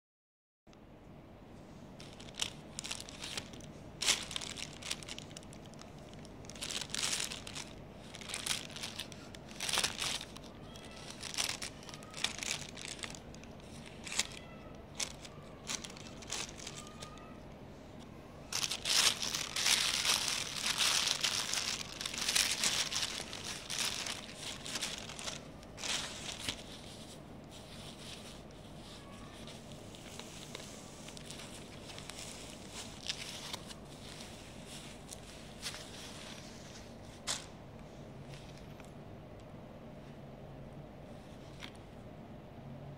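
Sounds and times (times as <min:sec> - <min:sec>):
foam wrap rustling: 0:02.0 - 0:17.4, 0:18.5 - 0:37.6
plastic mailer bag crinkling: 0:02.0 - 0:17.4, 0:18.5 - 0:37.5.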